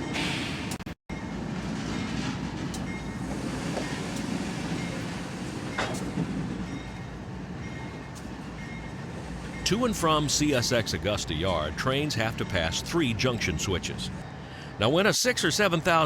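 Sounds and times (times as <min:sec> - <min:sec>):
train wheels rumbling on rail: 0:00.0 - 0:14.2.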